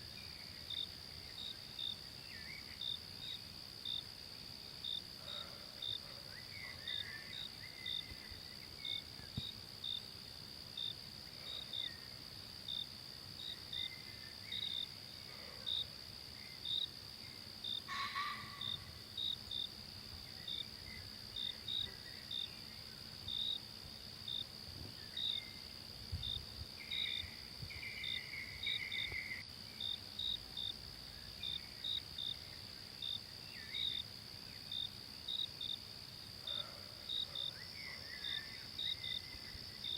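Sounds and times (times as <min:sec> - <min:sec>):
insect chirps: 0:00.0 - 0:39.9
insects droning: 0:00.0 - 0:39.9.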